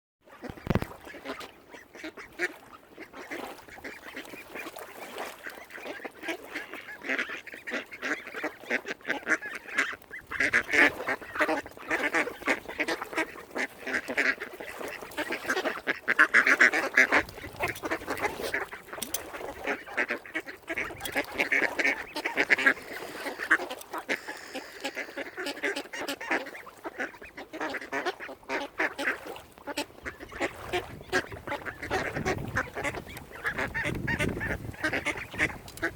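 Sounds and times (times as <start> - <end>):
flock of waterfowl calling: 0.3 - 35.9.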